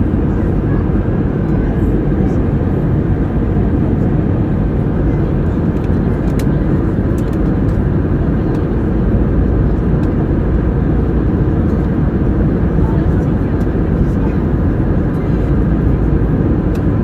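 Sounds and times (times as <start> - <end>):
airliner rumble: 0.0 - 17.0.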